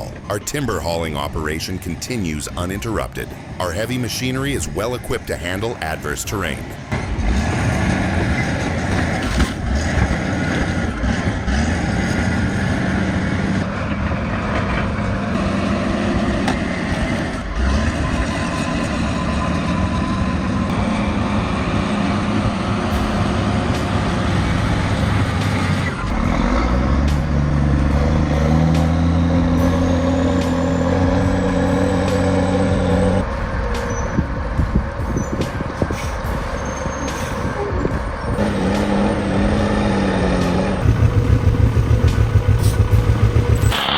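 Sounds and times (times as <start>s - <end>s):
deeper engine note climbing: 0.0s - 36.4s, 37.4s - 43.9s
diesel truck engine under load: 0.0s - 43.9s.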